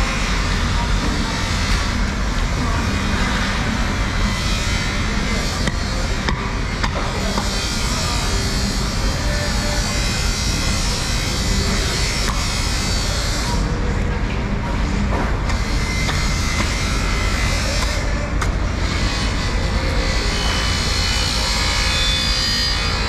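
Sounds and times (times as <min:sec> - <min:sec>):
loud machine drone: 0:00.0 - 0:23.0.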